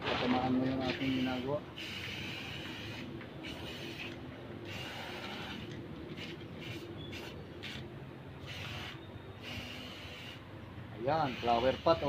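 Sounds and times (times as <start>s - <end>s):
spray paint can hissing: 0.9s - 10.5s, 11.2s - 12.0s.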